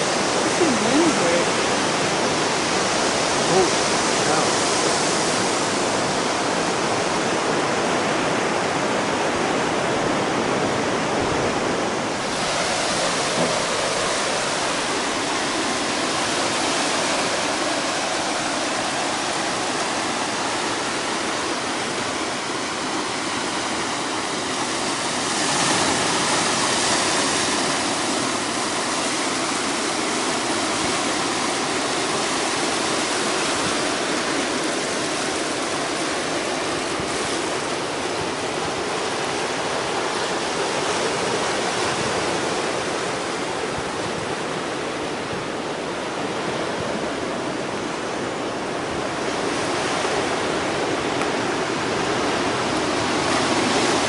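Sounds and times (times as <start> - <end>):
ocean surf washing on beach: 0.0 - 54.0.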